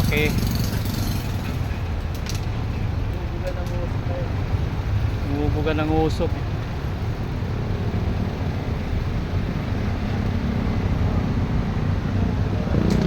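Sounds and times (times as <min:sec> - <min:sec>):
road traffic rumble: 0:00.0 - 0:13.0
vehicle engine: 0:00.0 - 0:13.0
wind: 0:00.0 - 0:13.0.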